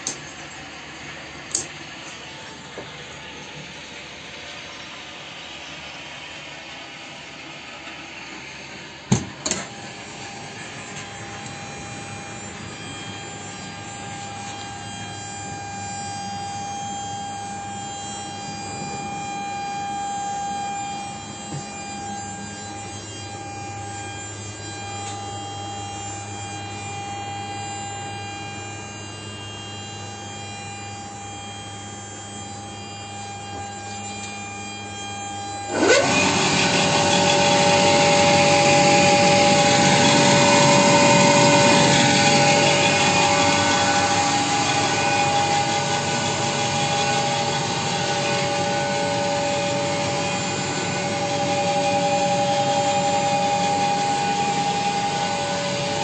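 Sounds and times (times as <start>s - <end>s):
electrical machine hum and whine: 0.0s - 56.0s.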